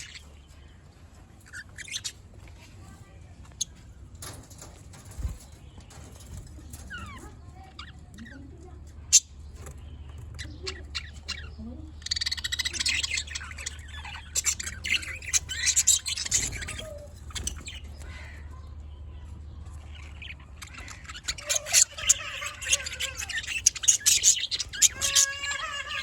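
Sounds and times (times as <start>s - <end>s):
budgies chirping and squawking: 0.0s - 0.6s, 1.3s - 3.0s, 3.6s - 26.0s.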